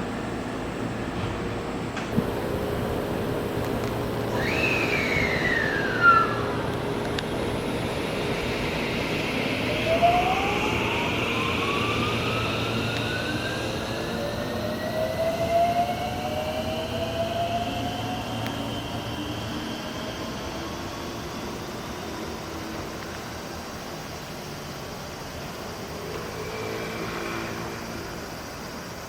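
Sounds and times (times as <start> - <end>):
train motor whine: 0.0 - 23.5, 25.5 - 28.9
train running gear rumble: 0.0 - 24.3.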